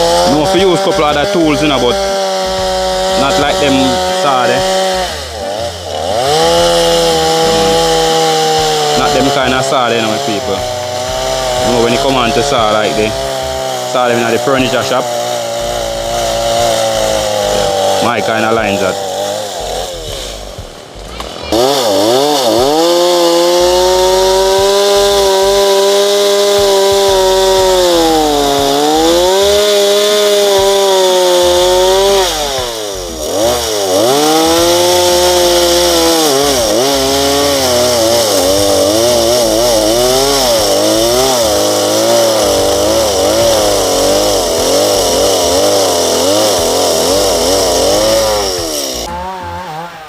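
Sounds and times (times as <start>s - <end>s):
chainsaw cutting wood: 0.0s - 50.0s.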